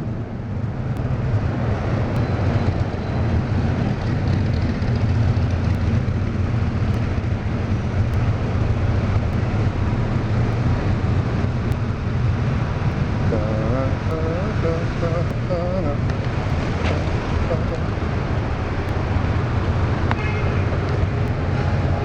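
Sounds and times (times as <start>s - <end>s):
low road and traffic rumble: 0.0s - 22.0s.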